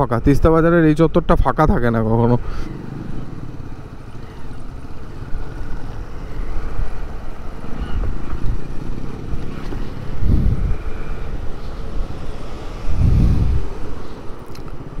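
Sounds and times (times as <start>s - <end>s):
motorcycle engine rumbling: 1.8s - 15.0s.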